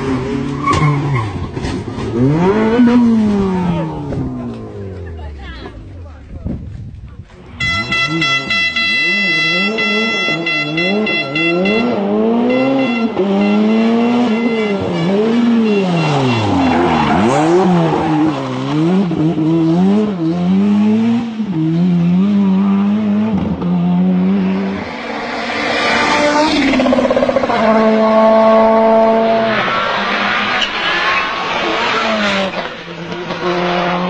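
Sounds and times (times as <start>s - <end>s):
rally car engine revving: 0.0s - 6.4s, 7.4s - 34.0s.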